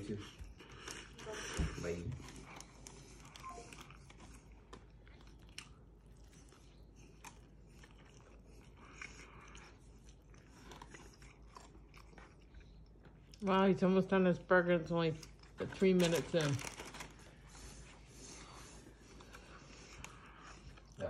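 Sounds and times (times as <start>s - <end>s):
chewing and crunching food: 0.0s - 21.0s.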